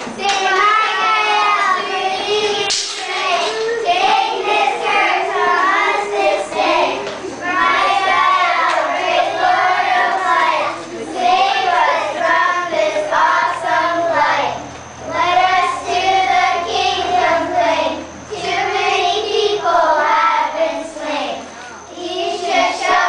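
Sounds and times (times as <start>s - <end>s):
children singing in unison: 0.0s - 23.0s.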